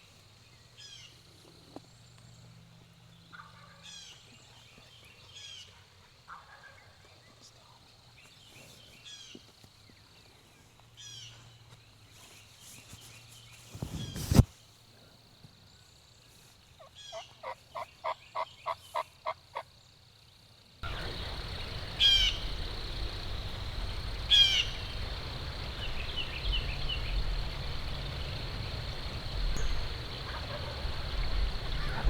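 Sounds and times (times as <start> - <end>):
background noise: 0.0 - 32.0.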